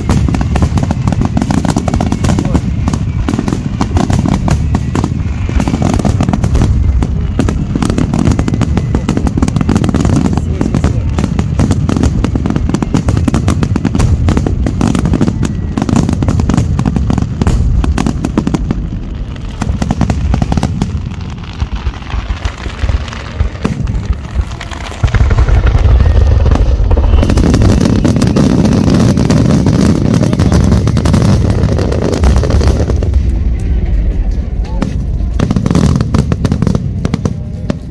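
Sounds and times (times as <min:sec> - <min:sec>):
fireworks bursting: 0:00.0 - 0:37.9
low rumble of explosions: 0:00.0 - 0:37.9.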